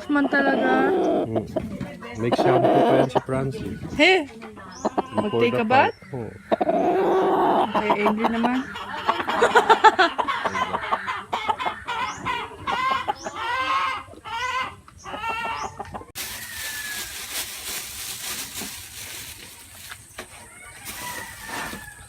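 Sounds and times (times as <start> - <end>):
rooster clucking and squawking: 0.0 - 3.3, 6.4 - 19.6, 20.3 - 22.0.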